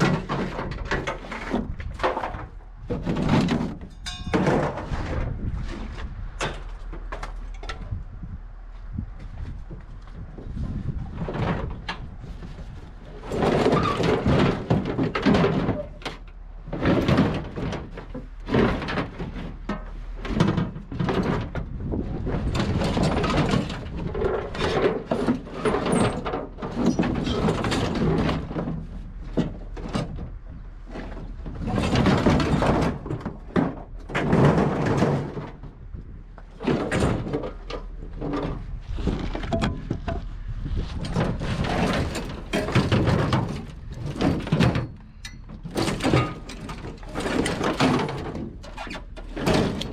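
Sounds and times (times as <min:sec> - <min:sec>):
scrap metal clanking and scraping: 0:00.0 - 0:08.0, 0:09.2 - 0:49.9.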